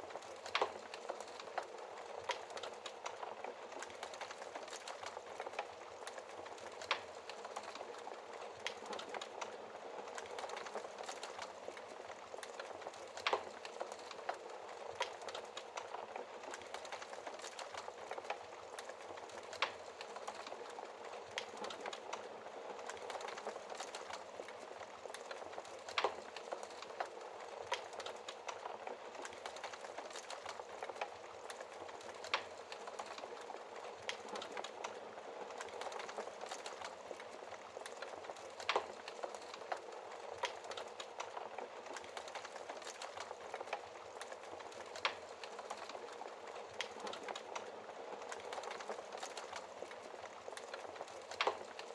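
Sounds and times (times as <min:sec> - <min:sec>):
wood fire crackling: 0:00.0 - 0:51.9
fire snapping: 0:00.1 - 0:51.9.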